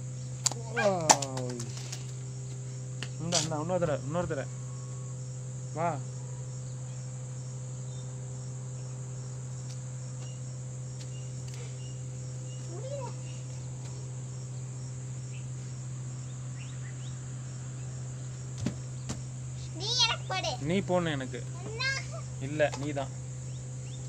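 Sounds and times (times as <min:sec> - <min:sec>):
insect chirring: 0:00.0 - 0:24.0
low steady hum: 0:00.0 - 0:24.0.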